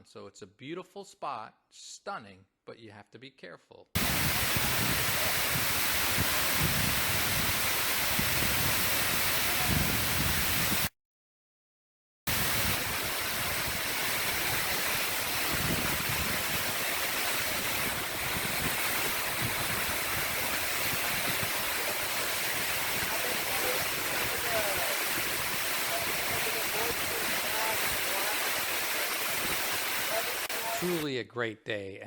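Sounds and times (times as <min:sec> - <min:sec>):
waterfall pouring: 0:04.0 - 0:10.9, 0:12.3 - 0:31.0.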